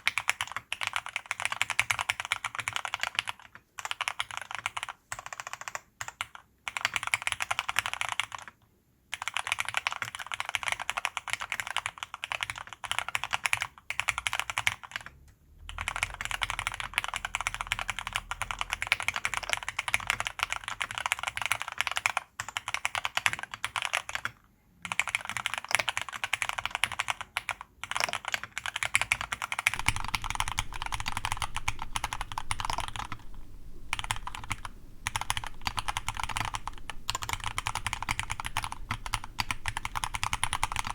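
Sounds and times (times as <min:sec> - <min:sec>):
fast mechanical keyboard typing: 0:00.0 - 0:08.5, 0:09.2 - 0:40.9.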